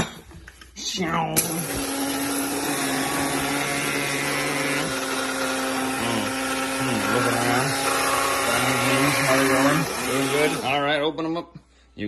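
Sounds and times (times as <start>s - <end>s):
electric coffee grinder running: 1.4s - 11.1s.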